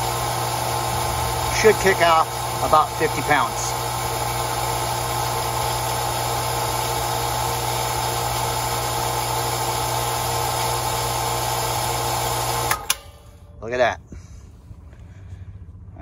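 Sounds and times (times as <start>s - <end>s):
water pump motor humming: 0.0s - 13.4s.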